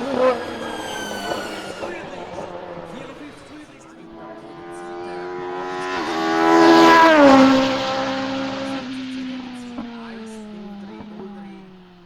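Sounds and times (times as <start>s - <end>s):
race car engine at full throttle: 0.0s - 12.0s.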